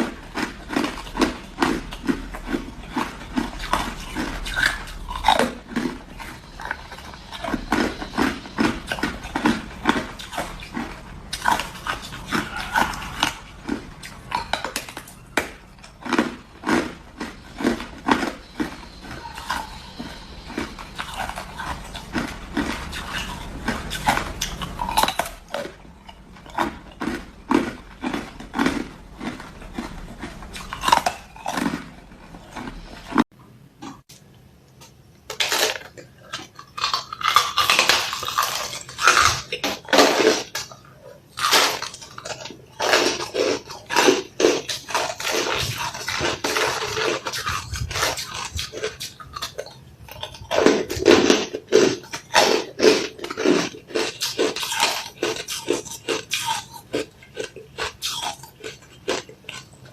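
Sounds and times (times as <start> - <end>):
crunching frozen ice: 0.0 - 33.2, 35.3 - 59.9.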